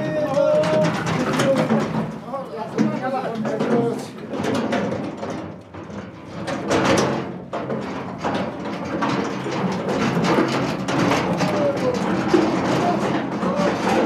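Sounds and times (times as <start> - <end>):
metal ore cart rattling: 0.0 - 14.0.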